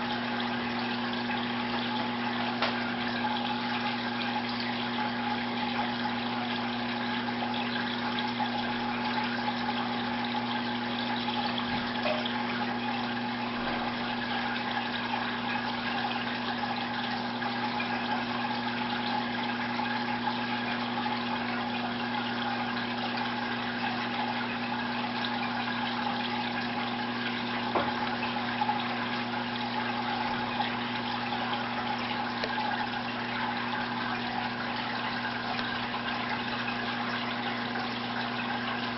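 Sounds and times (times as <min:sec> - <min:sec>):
pump motor hum: 0:00.0 - 0:38.9
trickling splashing water: 0:00.0 - 0:38.9.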